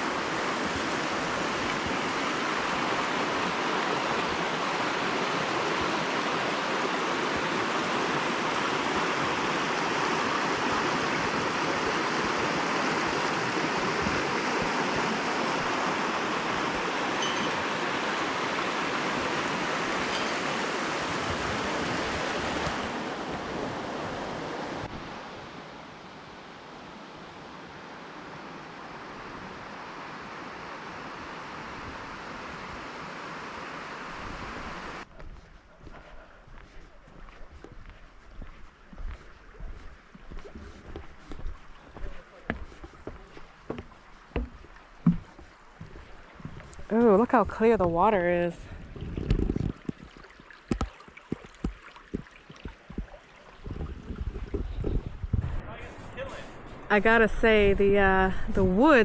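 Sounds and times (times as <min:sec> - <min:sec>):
rushing creek water: 0:00.0 - 0:59.0.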